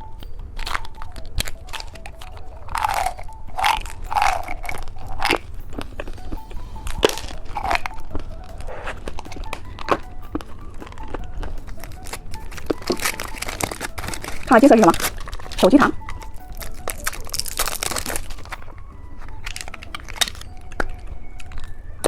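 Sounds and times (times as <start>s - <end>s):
plastic candy packaging crackling: 0.0s - 22.0s.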